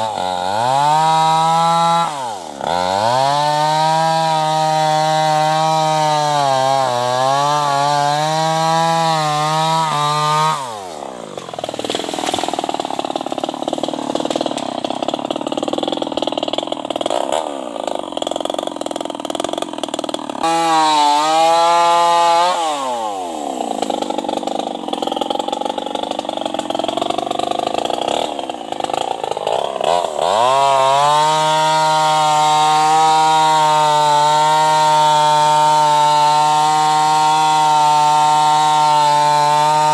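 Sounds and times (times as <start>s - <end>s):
chainsaw cutting hardwood: 0.0s - 39.9s.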